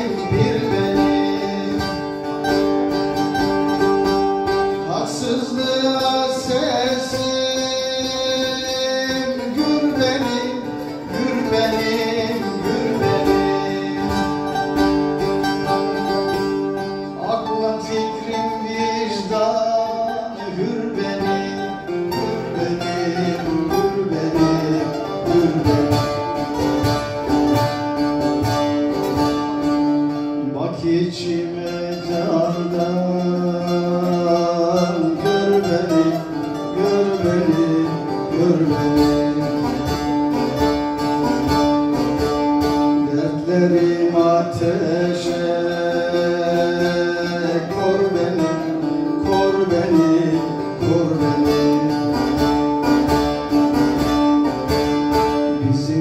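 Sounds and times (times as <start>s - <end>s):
plucked long-necked lute melody: 0.0s - 56.0s.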